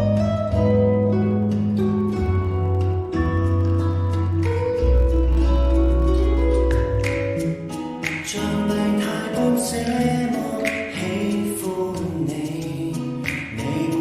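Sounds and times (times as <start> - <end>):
pop song with echoing vocals: 0.0 - 14.0.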